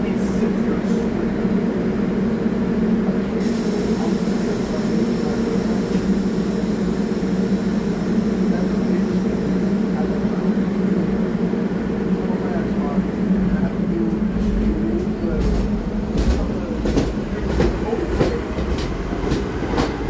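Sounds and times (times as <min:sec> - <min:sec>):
subway train humming: 0:00.0 - 0:20.0.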